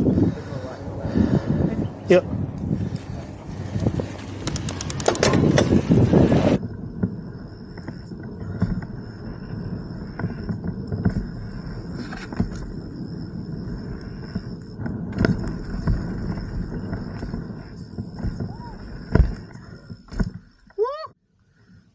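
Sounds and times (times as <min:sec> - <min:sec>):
bike tyres rumbling on dirt: 0:00.0 - 0:20.8
bike knocking and rattling: 0:02.6 - 0:20.9.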